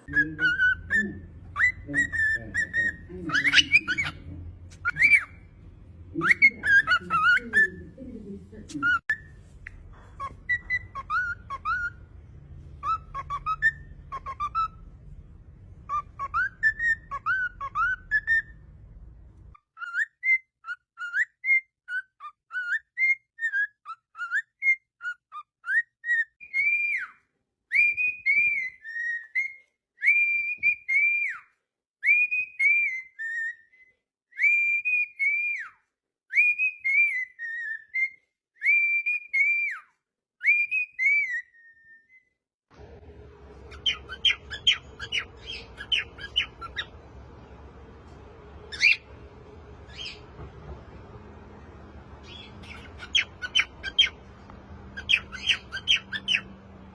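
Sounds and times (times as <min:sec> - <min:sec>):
cockatiel whistling: 0:00.0 - 0:07.8, 0:08.8 - 0:15.1, 0:15.7 - 0:18.8, 0:19.8 - 0:42.3, 0:43.0 - 0:47.8, 0:48.4 - 0:50.4, 0:51.2 - 0:56.9.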